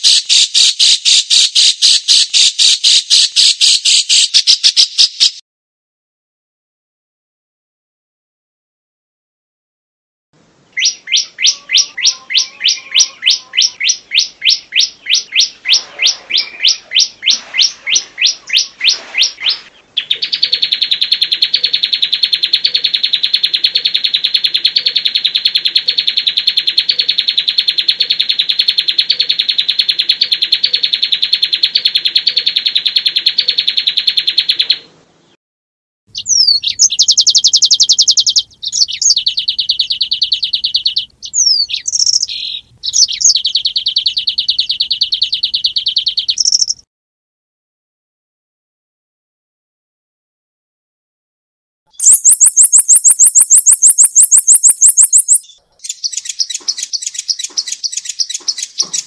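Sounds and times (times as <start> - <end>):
songbird singing: 0.0 - 5.4, 10.5 - 35.4, 36.1 - 46.9, 51.9 - 59.0.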